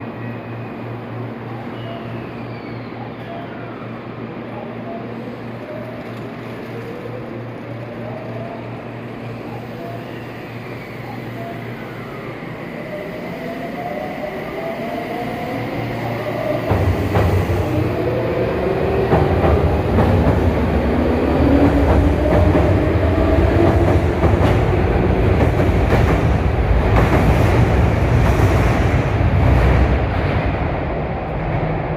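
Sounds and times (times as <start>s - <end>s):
train rumble: 0.0s - 31.9s.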